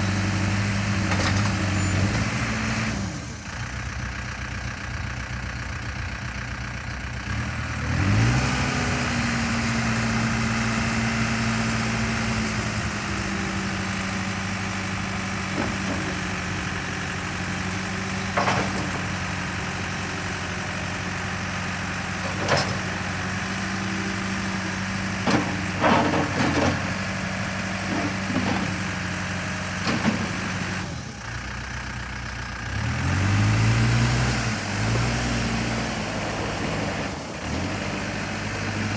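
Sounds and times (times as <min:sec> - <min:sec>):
diesel engine revving: 0:00.0 - 0:04.0, 0:07.1 - 0:38.9.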